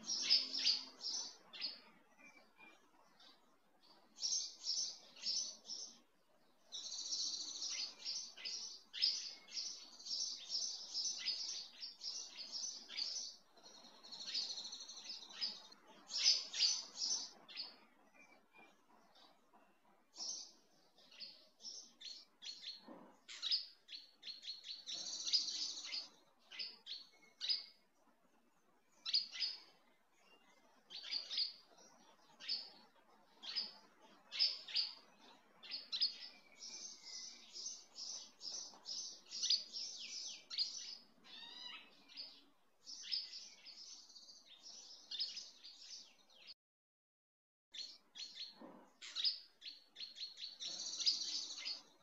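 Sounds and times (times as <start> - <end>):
small birds chirping: 0.0 - 46.6, 47.7 - 52.0.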